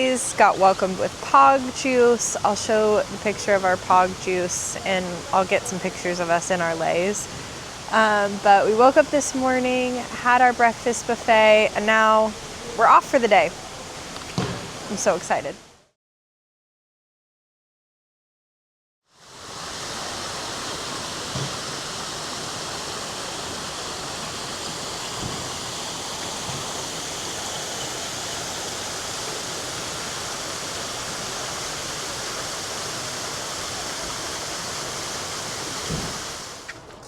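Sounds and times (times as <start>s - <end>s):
running water rushing: 0.0s - 15.9s, 19.2s - 36.8s.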